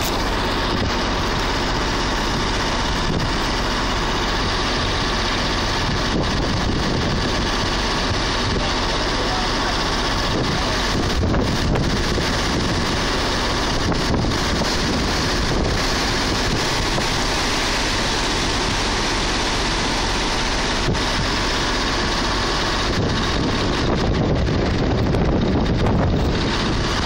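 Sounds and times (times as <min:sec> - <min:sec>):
wind blowing across microphone: 0:00.0 - 0:19.1, 0:20.2 - 0:27.0
vehicle engines idling: 0:00.0 - 0:27.0.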